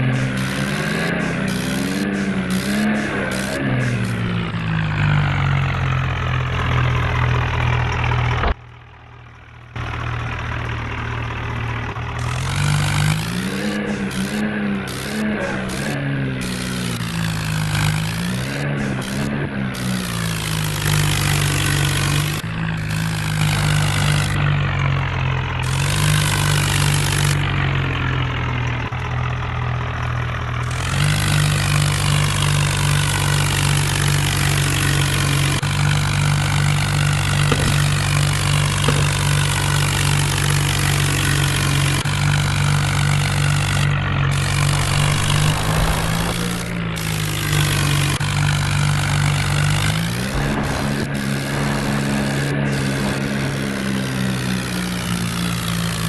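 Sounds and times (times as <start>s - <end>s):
tractor diesel engine running hard: 0.0s - 56.0s.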